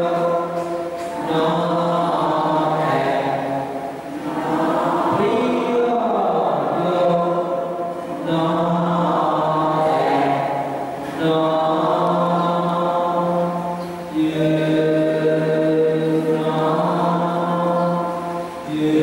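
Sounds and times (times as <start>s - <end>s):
slow chanting in held notes: 0.0s - 19.0s.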